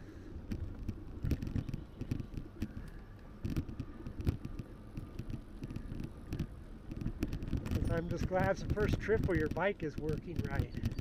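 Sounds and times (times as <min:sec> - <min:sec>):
wind buffeting microphone: 0:00.0 - 0:11.0
knocks and bumps from riding: 0:00.4 - 0:11.0.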